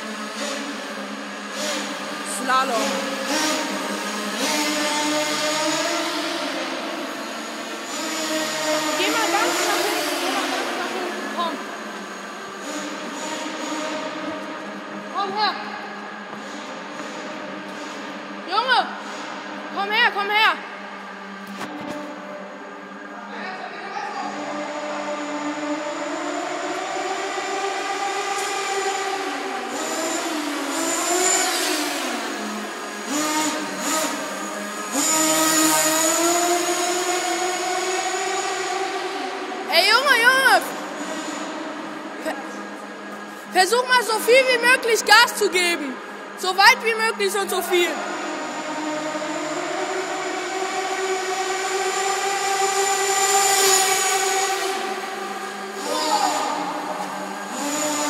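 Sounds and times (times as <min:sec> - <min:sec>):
model car engine revving: 0:00.0 - 0:15.2, 0:24.2 - 0:58.0.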